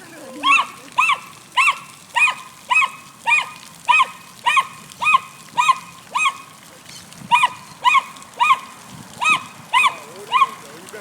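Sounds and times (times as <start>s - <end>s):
dog yipping barks: 0.4s - 6.5s, 7.3s - 10.7s.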